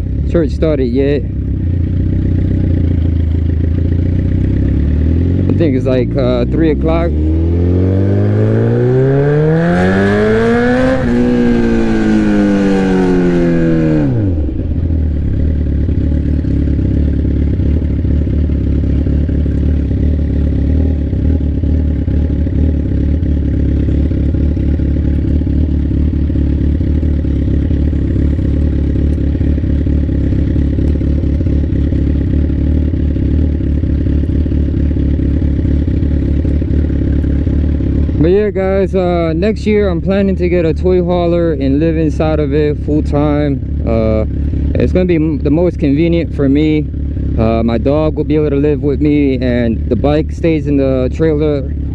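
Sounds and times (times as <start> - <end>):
loud motorcycle exhaust revving: 0.0 - 51.9.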